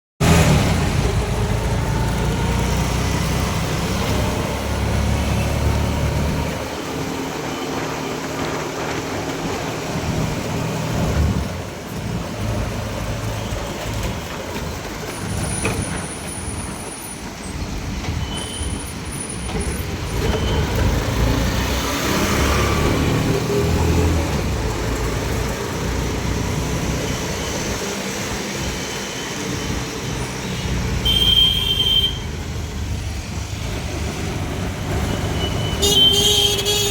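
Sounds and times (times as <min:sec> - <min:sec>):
vehicle rumble: 0:00.2 - 0:36.9.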